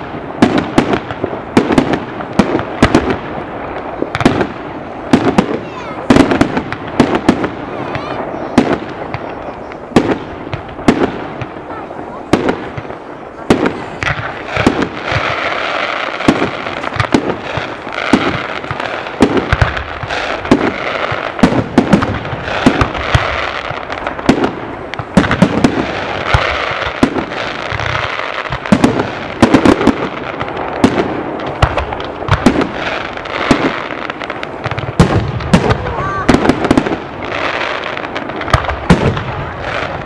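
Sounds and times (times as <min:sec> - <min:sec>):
background noise: 0:00.0 - 0:40.0
fireworks bursting: 0:00.0 - 0:40.0.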